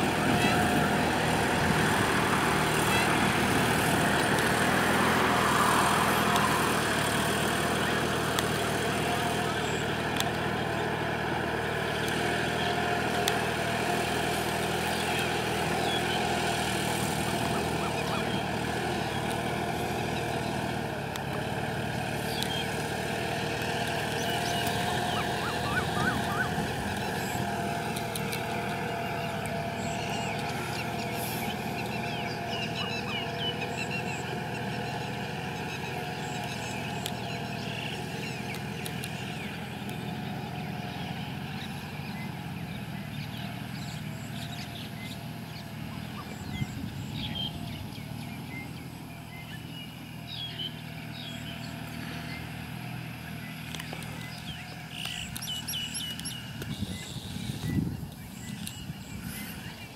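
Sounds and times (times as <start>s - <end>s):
tractor diesel engines droning: 0.0s - 59.9s.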